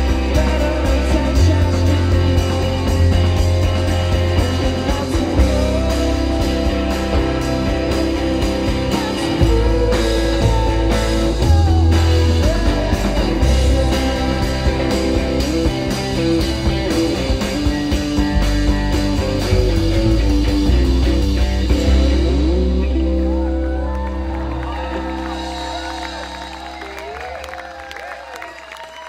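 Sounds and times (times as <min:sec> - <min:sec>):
steady drum beat: 0:00.0 - 0:23.4, 0:24.5 - 0:27.3
bass notes: 0:00.0 - 0:28.1
electric guitar: 0:00.0 - 0:28.6.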